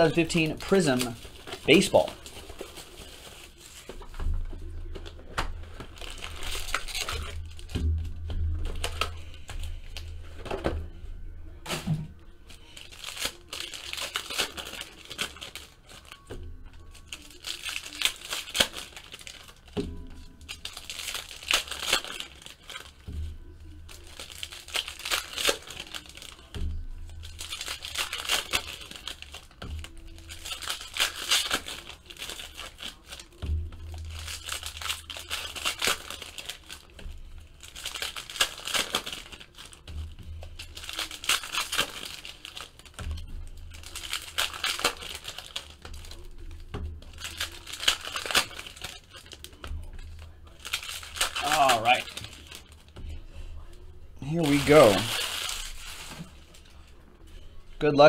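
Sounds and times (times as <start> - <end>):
foil packs tearing and crinkling: 0.0 - 4.2, 4.9 - 10.1, 11.7 - 56.8
background music: 0.0 - 58.0.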